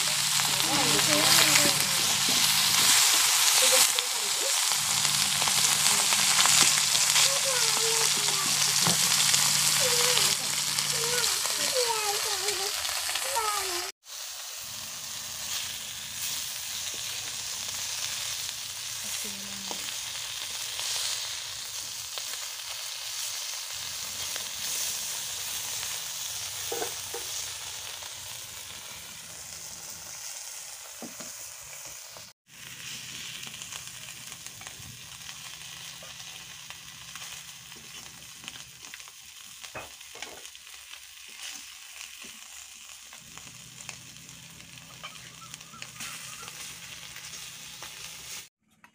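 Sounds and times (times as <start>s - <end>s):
fish sizzling in hot oil: 0.0s - 48.5s.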